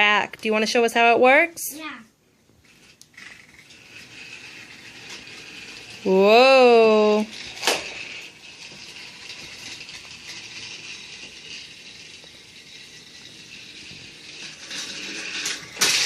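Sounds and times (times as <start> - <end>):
toy train rattling on plastic track: 2.6 - 16.0.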